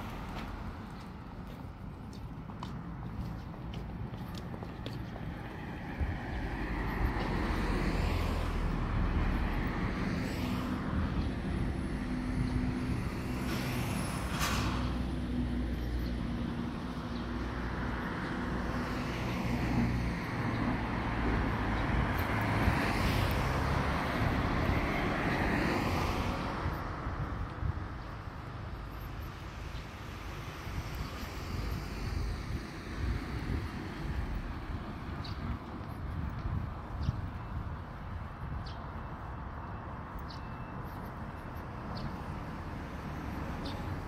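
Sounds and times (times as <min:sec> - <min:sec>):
passing road traffic: 0:00.0 - 0:44.0.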